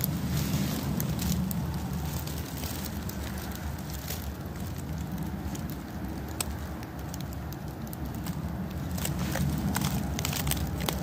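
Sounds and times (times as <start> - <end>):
dry leaves crackling: 0.0 - 11.0
low woodland rumble: 0.0 - 11.0.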